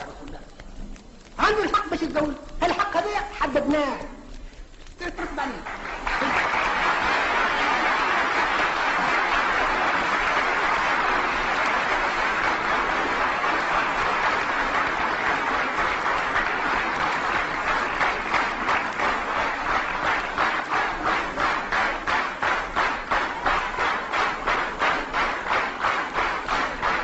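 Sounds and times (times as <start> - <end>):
rhythmic unison clapping: 0.0 - 27.0
large audience applauding: 5.1 - 27.0.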